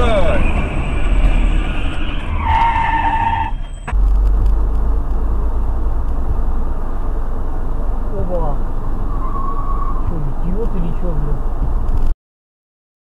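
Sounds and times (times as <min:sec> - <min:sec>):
car engine and road rumble: 0:00.0 - 0:12.2.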